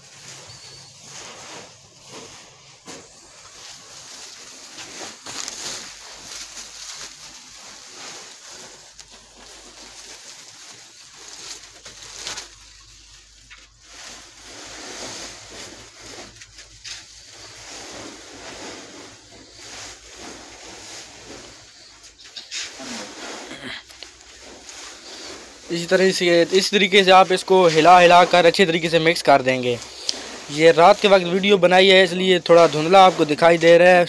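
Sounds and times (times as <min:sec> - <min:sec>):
plastic sacks rustling: 0:00.0 - 0:34.0
feed pellets shifting: 0:00.1 - 0:34.0.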